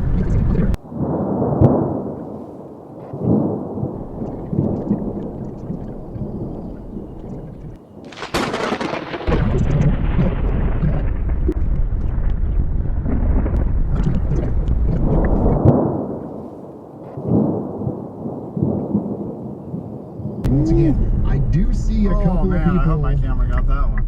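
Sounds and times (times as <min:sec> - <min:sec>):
sharp thunder crack: 0:00.0 - 0:19.4, 0:20.4 - 0:24.0
thunder rumbling: 0:00.0 - 0:24.0.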